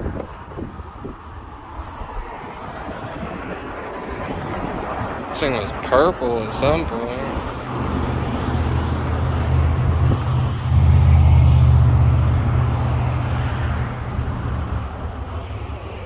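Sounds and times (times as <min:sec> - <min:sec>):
motor vehicle engine drone: 0:00.0 - 0:16.0.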